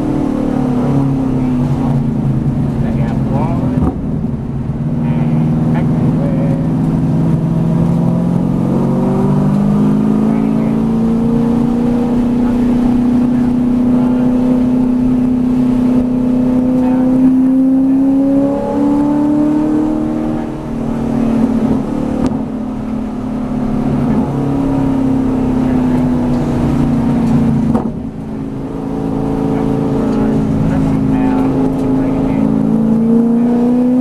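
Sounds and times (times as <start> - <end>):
race car engine: 0.0 - 34.0.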